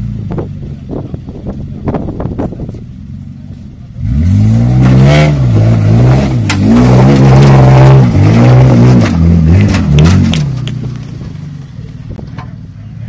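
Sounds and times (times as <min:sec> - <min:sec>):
engine revving under load: 0:00.0 - 0:12.4.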